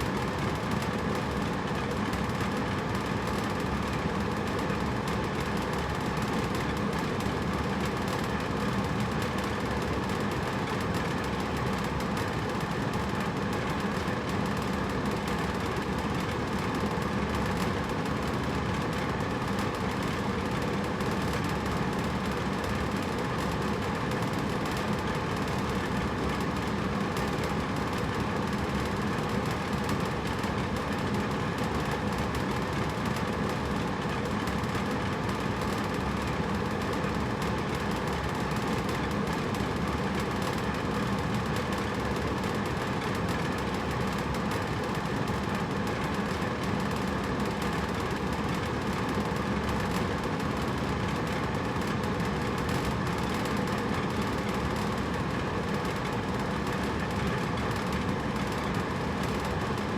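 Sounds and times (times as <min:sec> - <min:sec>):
air conditioner humming: 0:00.0 - 0:59.9.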